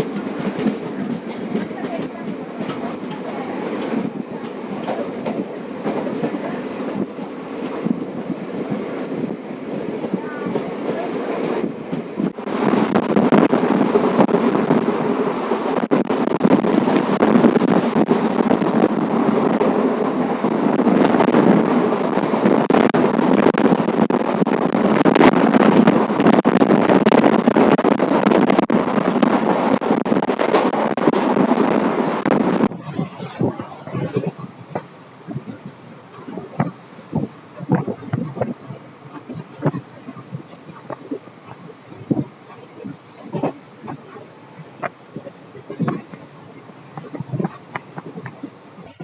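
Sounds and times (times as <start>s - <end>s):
train rumbling along track: 0.0s - 49.0s
wheels clicking over rail joints: 0.0s - 49.0s
wind buffeting microphone: 0.0s - 49.0s.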